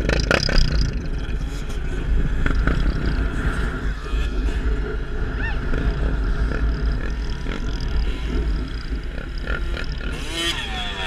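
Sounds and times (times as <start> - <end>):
atv engine running: 0.0 - 11.0
wind buffeting microphone: 0.0 - 11.0.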